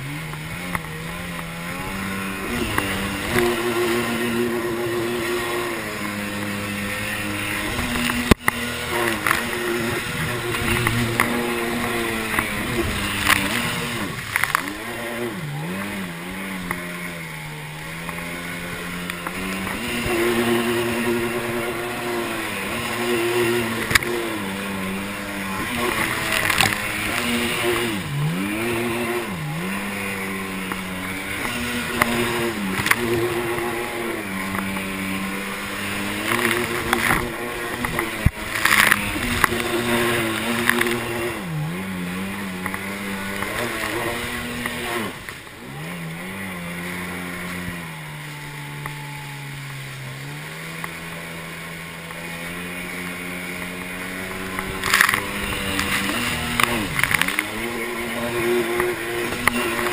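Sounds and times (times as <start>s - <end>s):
jet ski engine: 0.0s - 59.9s
rushing water: 0.0s - 59.9s.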